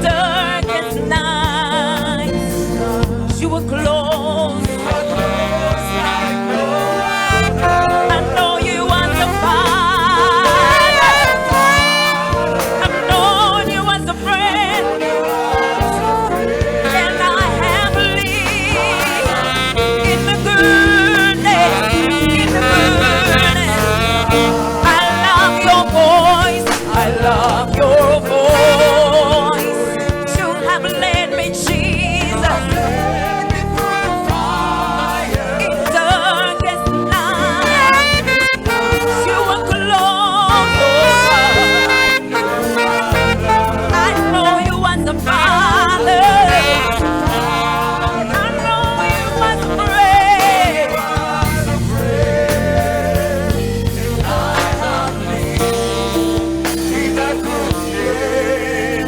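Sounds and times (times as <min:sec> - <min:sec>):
band accompaniment: 0:00.0 - 0:59.0
person singing gospel with vibrato: 0:00.0 - 0:59.0.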